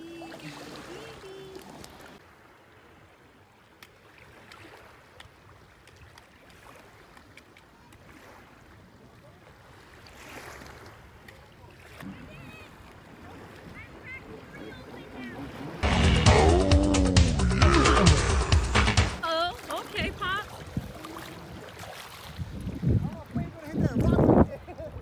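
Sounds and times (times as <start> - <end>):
small waves lapping: 0.0 - 15.8, 19.2 - 25.0.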